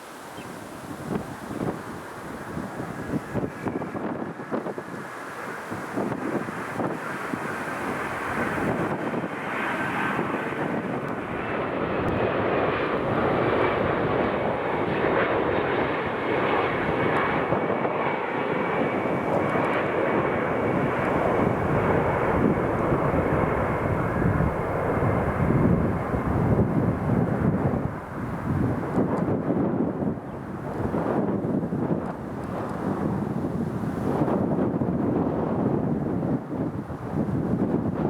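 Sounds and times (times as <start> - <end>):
jet engines roaring: 1.0 - 37.5.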